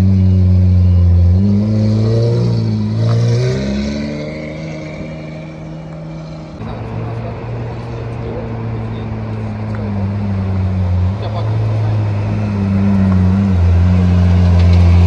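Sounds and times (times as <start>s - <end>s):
car engine accelerating away: 0.0s - 15.0s.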